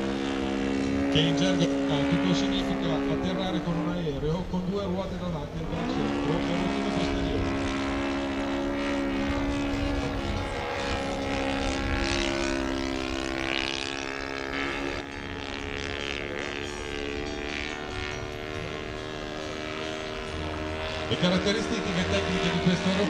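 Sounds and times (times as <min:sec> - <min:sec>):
model plane engine and propeller: 0:00.0 - 0:23.0.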